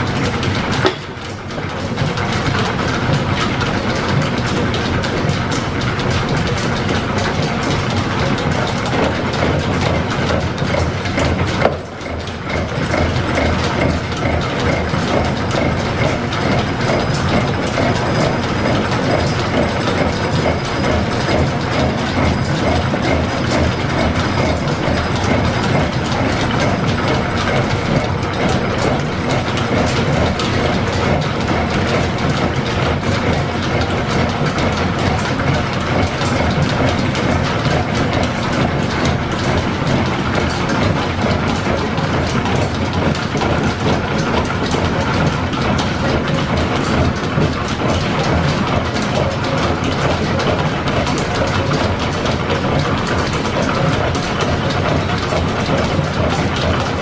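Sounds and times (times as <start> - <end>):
milling machine clattering: 0.0 - 57.0.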